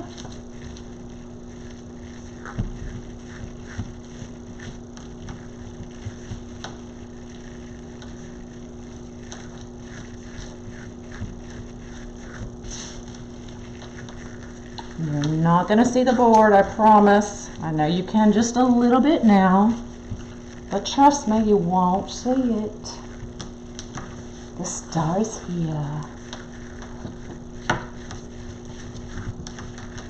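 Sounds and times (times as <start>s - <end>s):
ribbon rustling and crinkling: 0.0s - 21.4s, 22.1s - 30.0s
steady low hum: 0.0s - 30.0s.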